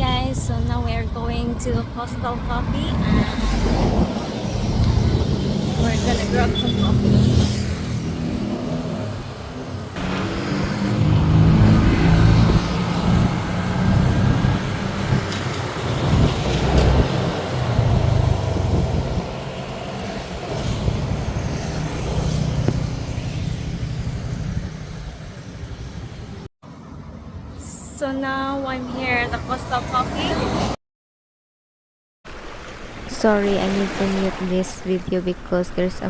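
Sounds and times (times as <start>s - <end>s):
vehicle engine and road rumble: 0.0s - 30.8s.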